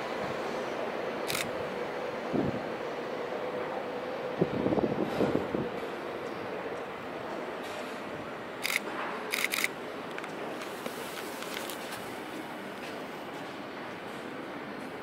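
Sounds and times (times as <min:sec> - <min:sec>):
background noise by railway: 0:00.0 - 0:15.0.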